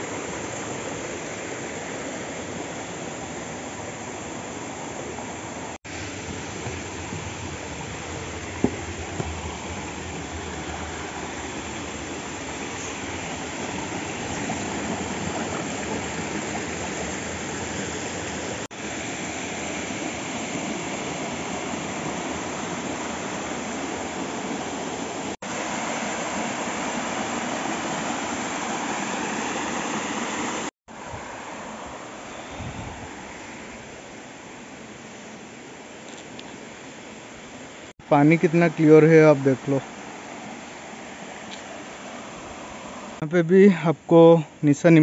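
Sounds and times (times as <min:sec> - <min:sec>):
rushing stream water: 0:00.0 - 0:45.0.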